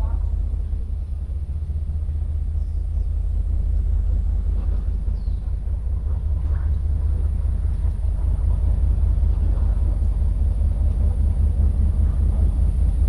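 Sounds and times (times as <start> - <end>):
low rumble of street ambience: 0.0 - 13.0.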